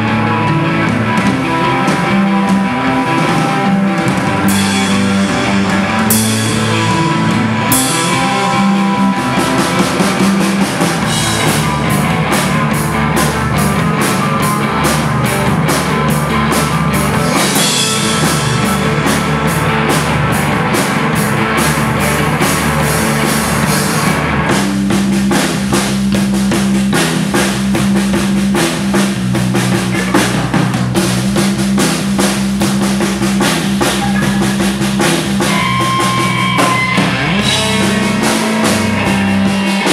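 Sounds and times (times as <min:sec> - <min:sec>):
droning bass guitar: 0:00.0 - 0:39.9
drum kit fast beat: 0:00.0 - 0:39.9.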